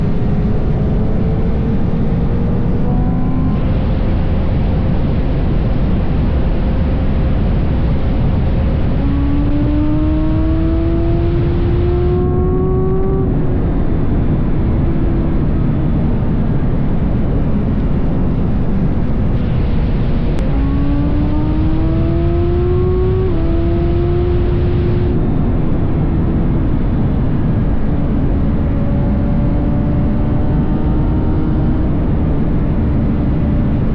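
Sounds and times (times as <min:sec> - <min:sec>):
motorcycle engine accelerating: 0:00.0 - 0:33.9
wind rush on microphone: 0:00.0 - 0:33.9.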